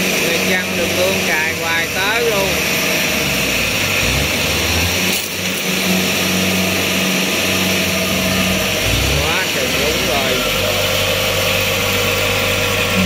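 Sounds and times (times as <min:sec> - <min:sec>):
harvester engine running under load: 0:00.0 - 0:13.0.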